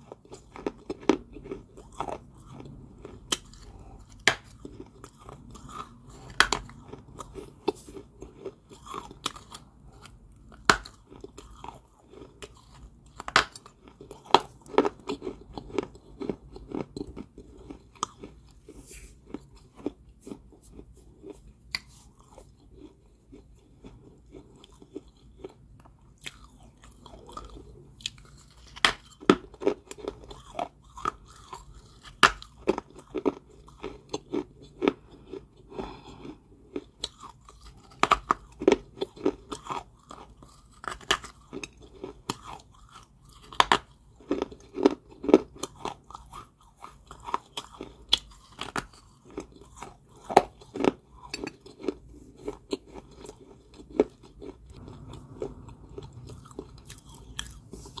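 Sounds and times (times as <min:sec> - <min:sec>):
person chewing crunchy clay: 0:00.0 - 0:58.0.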